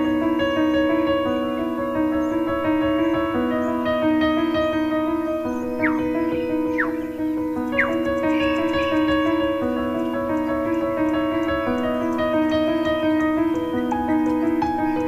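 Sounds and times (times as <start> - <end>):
piano music with held chords: 0.0 - 15.0.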